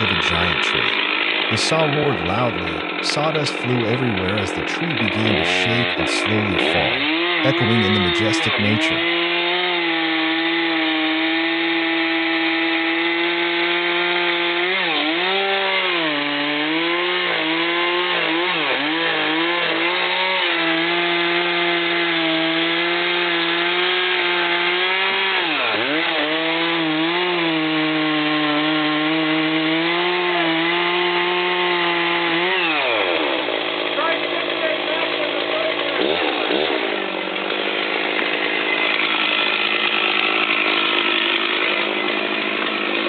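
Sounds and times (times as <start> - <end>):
chainsaw cutting tree trunk: 0.0 - 43.0.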